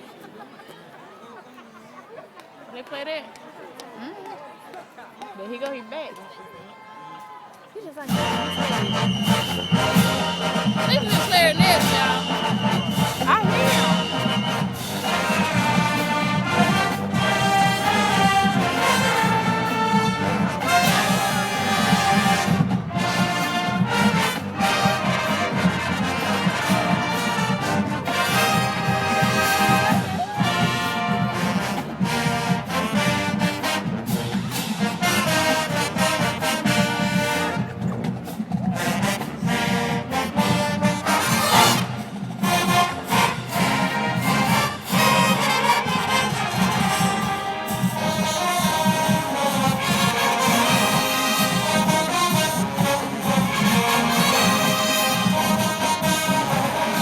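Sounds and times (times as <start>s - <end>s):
marching band playing: 7.8s - 57.0s
drums keeping a steady beat: 8.0s - 57.0s
trombones and trumpets: 8.0s - 57.0s.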